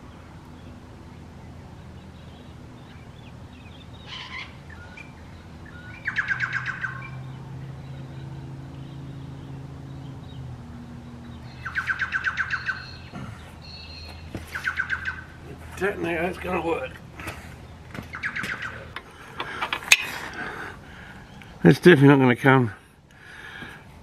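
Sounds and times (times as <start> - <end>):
bird chirping: 0.0 - 21.7.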